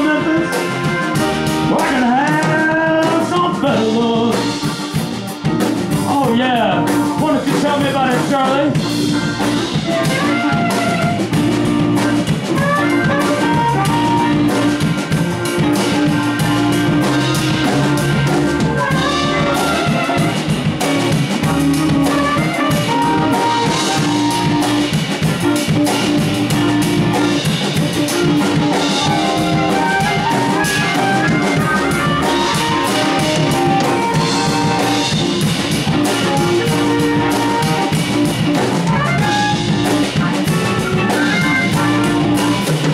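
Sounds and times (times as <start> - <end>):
band playing instrumental music: 0.0 - 42.9
drum kit: 0.0 - 42.9.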